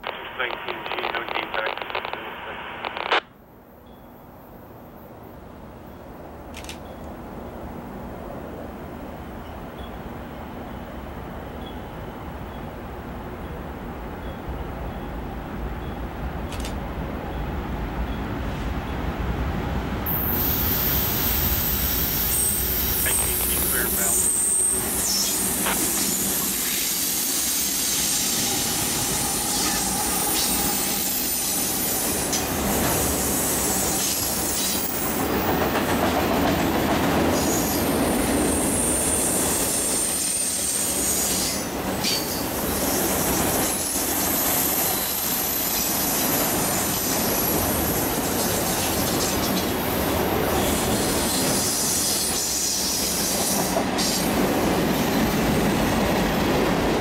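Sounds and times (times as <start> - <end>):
steel wheels rumbling on rail: 7.2 - 57.0.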